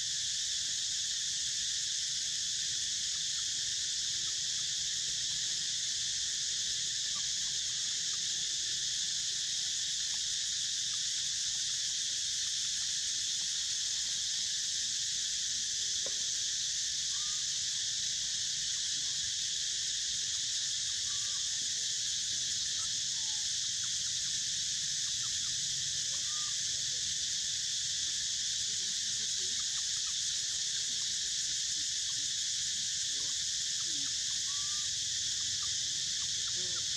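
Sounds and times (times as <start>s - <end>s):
insect chorus drone: 0.0s - 36.9s.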